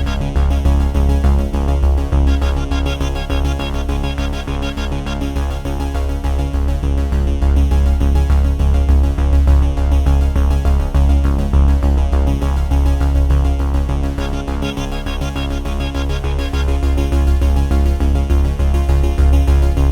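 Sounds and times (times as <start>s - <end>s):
synthesizer music with pulsing bass: 0.0s - 19.9s.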